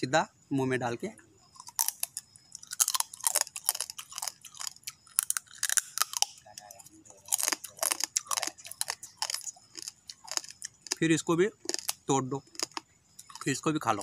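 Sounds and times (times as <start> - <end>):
person chewing crab shell crunches: 1.6 - 11.0, 11.6 - 14.0.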